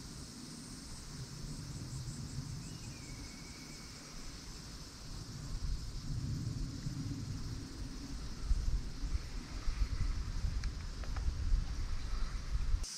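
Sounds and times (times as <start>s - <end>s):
insects chirring: 0.0s - 12.9s.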